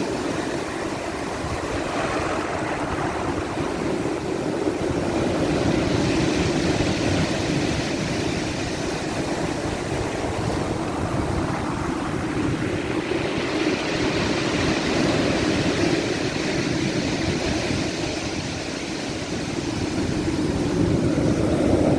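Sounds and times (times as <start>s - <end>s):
waves washing on shore: 0.0s - 21.9s.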